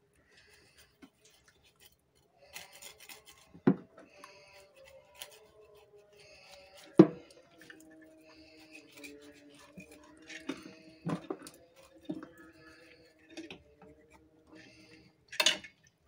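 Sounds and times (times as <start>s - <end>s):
knife scraping fish: 0.2s - 15.5s.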